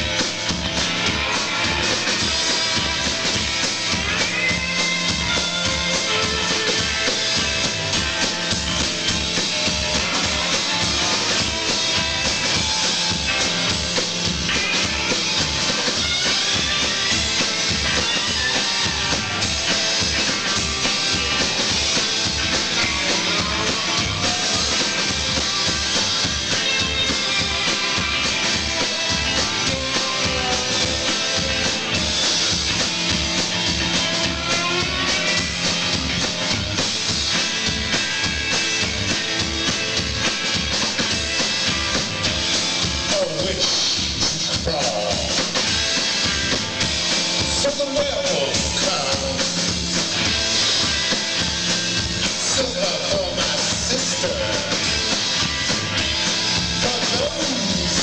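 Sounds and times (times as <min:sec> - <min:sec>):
drum kit beat: 0:00.0 - 0:58.0
electric guitar lines: 0:00.0 - 0:58.0.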